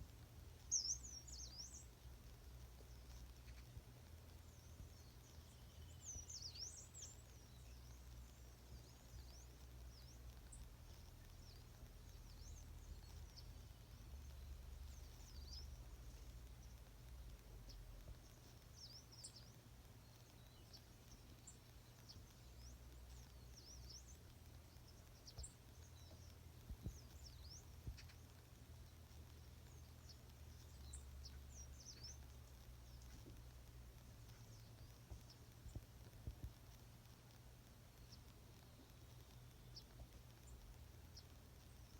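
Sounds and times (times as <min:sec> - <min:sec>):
birds chirping: 0:00.0 - 0:41.9
steady low rumble: 0:00.0 - 0:41.9.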